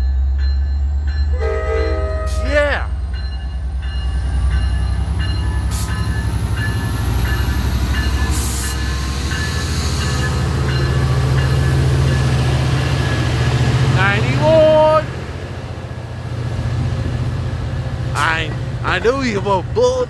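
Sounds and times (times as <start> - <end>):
diesel locomotive rumbling: 0.0 - 20.0.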